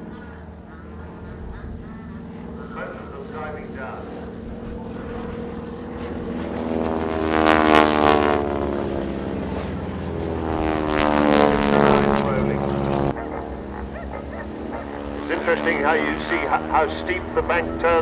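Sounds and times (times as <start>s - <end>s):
biplanes flying past: 0.0s - 18.0s.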